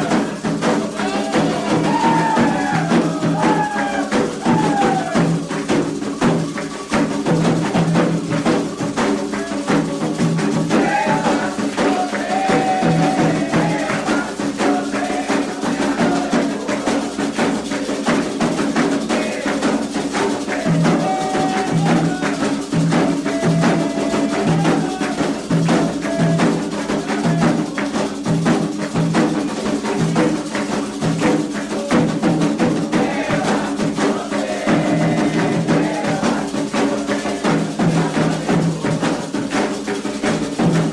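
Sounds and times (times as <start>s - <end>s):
voices chanting: 0.0s - 5.8s, 9.3s - 28.0s, 31.4s - 40.4s
hand drums and percussion: 0.0s - 40.9s.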